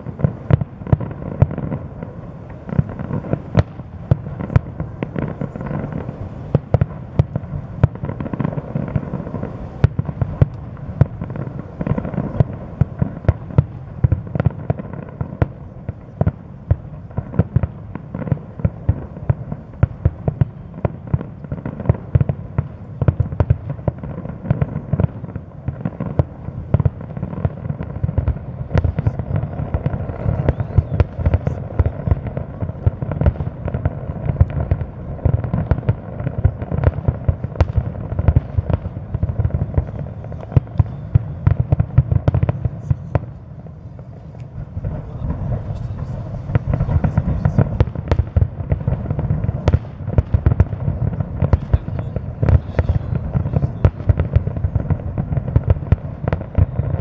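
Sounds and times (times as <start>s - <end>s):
fireworks banging rapidly: 0.0s - 57.0s.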